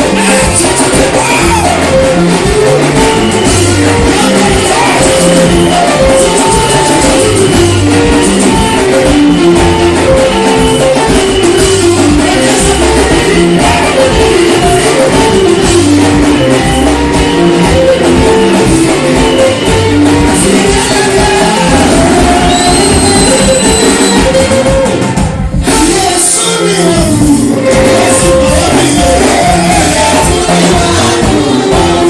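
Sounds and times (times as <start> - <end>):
person singing: 0.0 - 32.0
worship band playing: 0.0 - 32.0.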